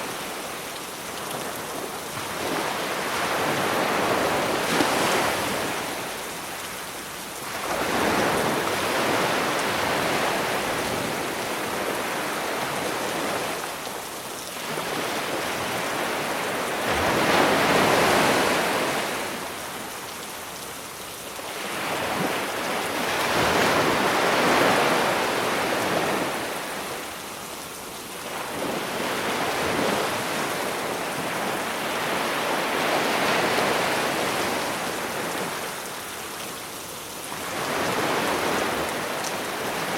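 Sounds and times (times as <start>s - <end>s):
sea waves breaking: 1.3s - 13.7s, 14.6s - 27.2s, 28.3s - 35.8s, 37.3s - 39.9s.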